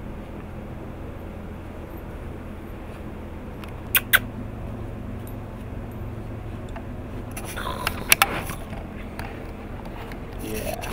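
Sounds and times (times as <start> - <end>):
low background hum: 0.0 - 10.9.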